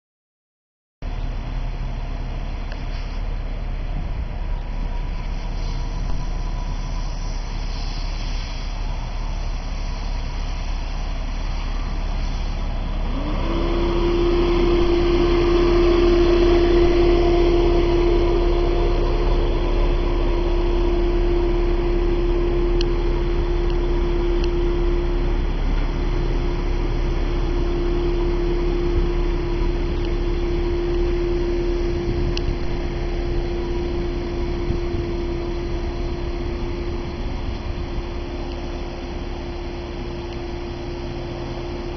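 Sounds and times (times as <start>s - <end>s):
car engine idling: 1.0s - 41.9s
engine whine: 1.0s - 41.9s.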